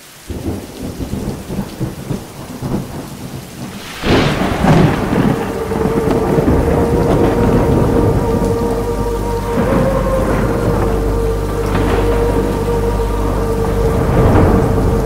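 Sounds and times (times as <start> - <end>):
heavy rain: 0.0 - 15.0
thunderclap rumbling: 0.3 - 15.0.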